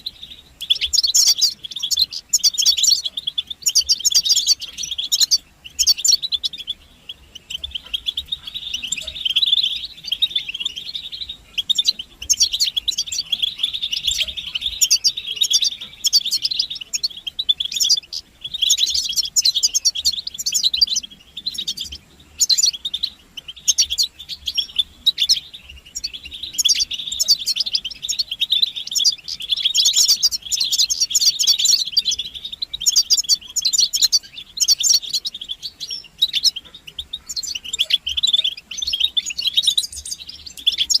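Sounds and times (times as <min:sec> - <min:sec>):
goldfinches twittering and singing: 0:00.0 - 0:41.0.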